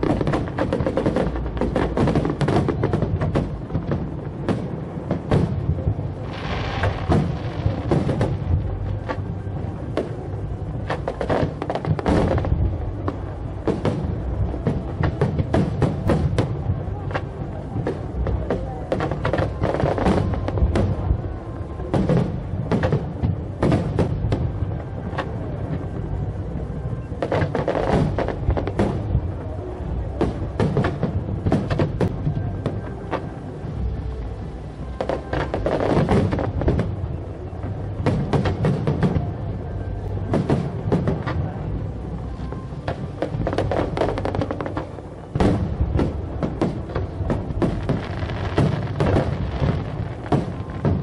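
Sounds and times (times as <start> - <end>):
fireworks bangs and crackles: 0.0 - 51.0
low rumble: 0.0 - 51.0
music: 0.0 - 51.0.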